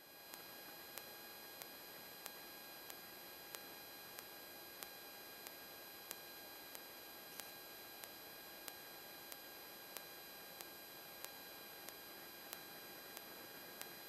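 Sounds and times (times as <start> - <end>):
soft tick: 1.0 - 3.6, 4.2 - 14.0.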